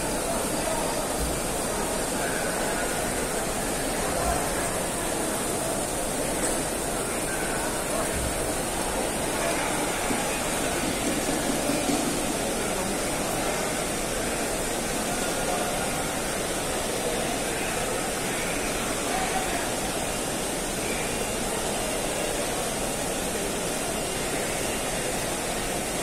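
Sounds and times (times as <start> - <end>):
heavy rain: 0.0 - 26.0
murmur of crowd voices: 0.0 - 26.0.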